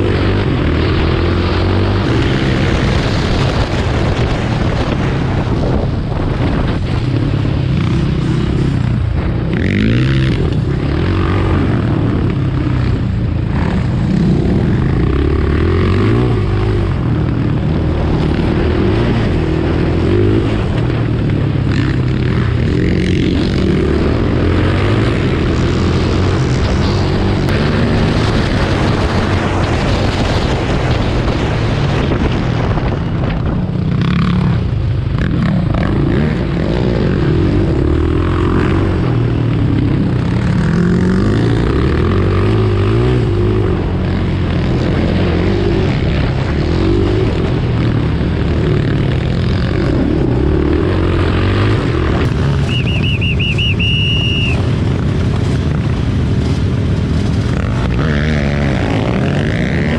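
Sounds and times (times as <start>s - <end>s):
racing quad engines: 0.0s - 59.9s.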